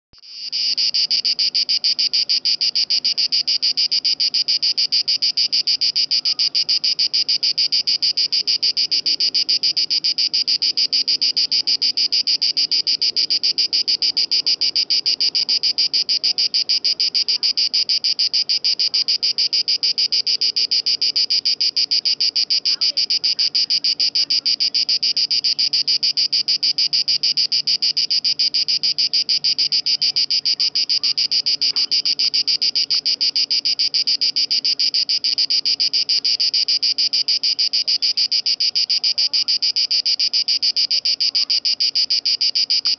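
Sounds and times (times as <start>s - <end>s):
cicada singing: 0.2s - 42.9s.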